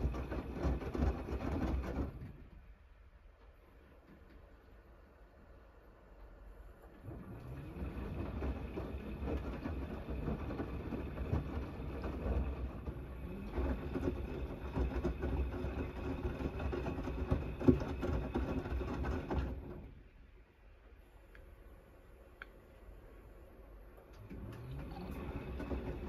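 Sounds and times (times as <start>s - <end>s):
laundry and water sloshing: 0.0s - 5.4s, 6.3s - 20.1s, 24.0s - 26.0s
washing machine tumbling: 0.0s - 21.2s, 22.9s - 26.0s.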